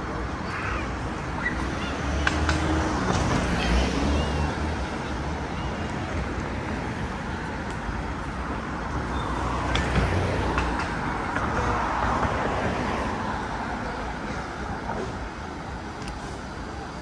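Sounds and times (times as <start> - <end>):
background traffic noise: 0.0 - 17.0.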